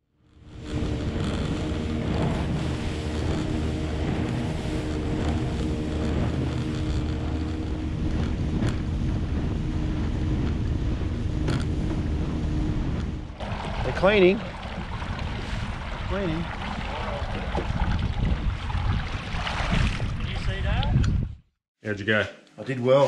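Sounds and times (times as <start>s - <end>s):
outboard motor running: 0.1s - 20.2s
water rushing past hull: 0.4s - 21.0s
wind buffeting microphone: 0.5s - 21.5s.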